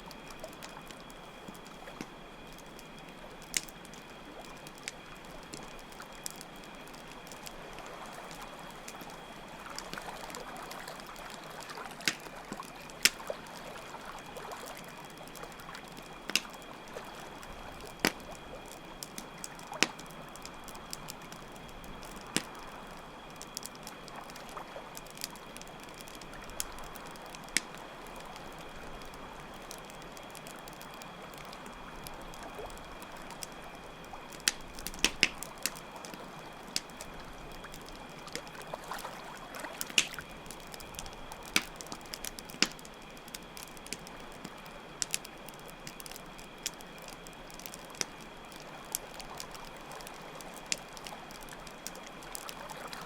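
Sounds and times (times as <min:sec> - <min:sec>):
campfire crackling: 0:00.0 - 0:53.0
crickets chirping: 0:00.0 - 0:53.0.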